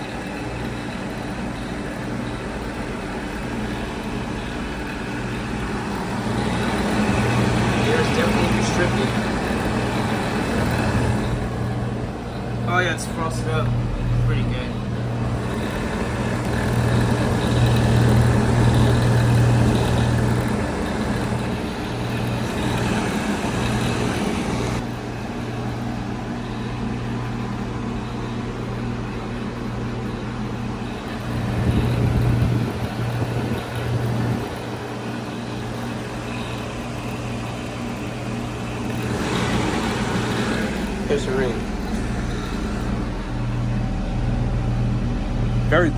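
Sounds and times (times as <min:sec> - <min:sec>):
compressor hum: 0:00.0 - 0:45.9
fan airflow rush: 0:00.0 - 0:45.9.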